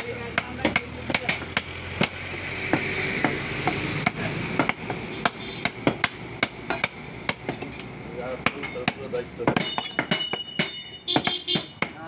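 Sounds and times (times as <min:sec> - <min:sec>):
cleaver chopping on wooden block: 0:00.0 - 0:07.7, 0:08.4 - 0:12.0
market noise: 0:00.0 - 0:12.0.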